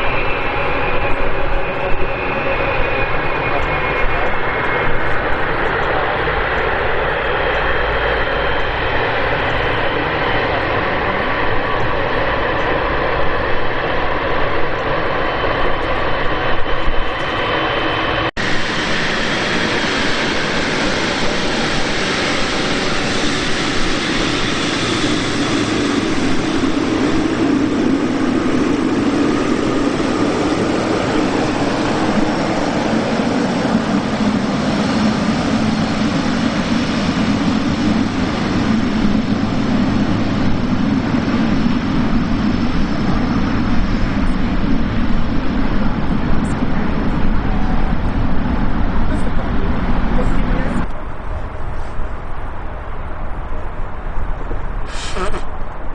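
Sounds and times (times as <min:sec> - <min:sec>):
jet engines running: 0:00.0 - 0:55.9.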